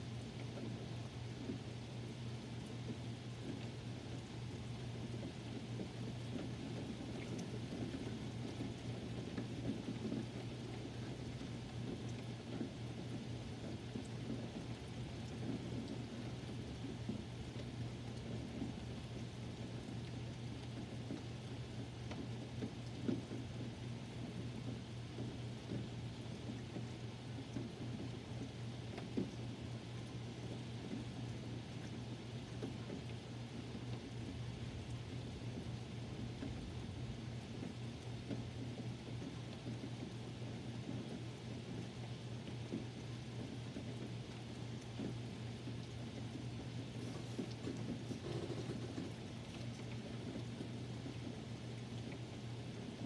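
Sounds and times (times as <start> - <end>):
constant low hum: 0.0 - 53.0
steady rain: 0.0 - 53.0
raindrop ticks: 0.1 - 53.0
faint drips: 2.3 - 53.0.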